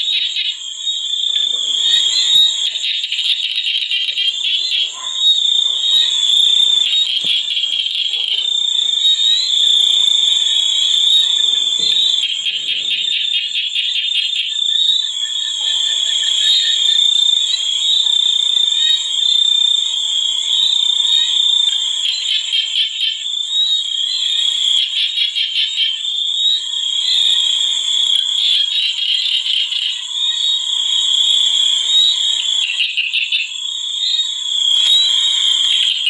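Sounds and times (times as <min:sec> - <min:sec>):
frogs trilling: 0:00.0 - 0:36.0.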